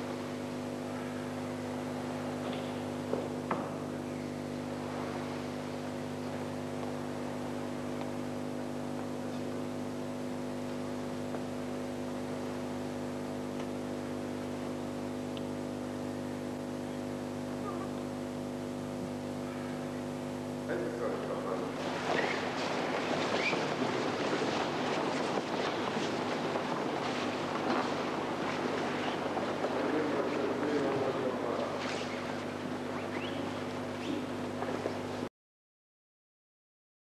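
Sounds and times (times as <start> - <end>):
steady buzzing hum: 0.0 - 35.3.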